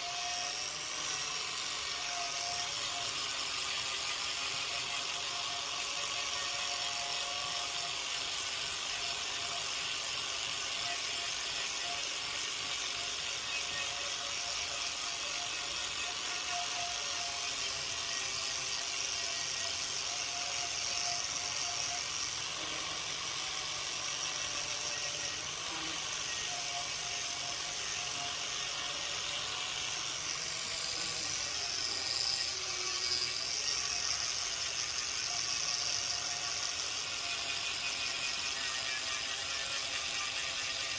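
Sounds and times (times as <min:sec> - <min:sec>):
power tool whirring with hiss: 0:00.0 - 0:40.9.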